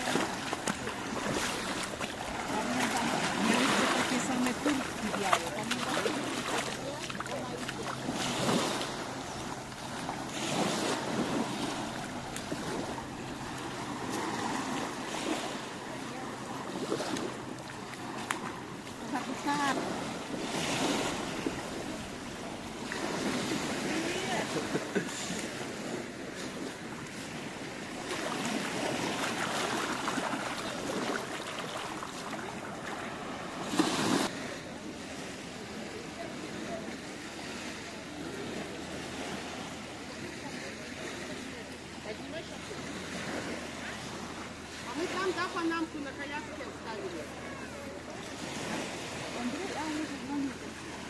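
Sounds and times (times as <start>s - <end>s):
small waves on sandy beach: 0.0s - 51.0s.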